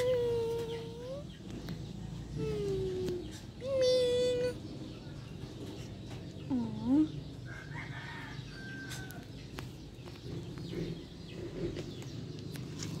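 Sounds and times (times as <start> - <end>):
bird calls: 0.0 - 13.0.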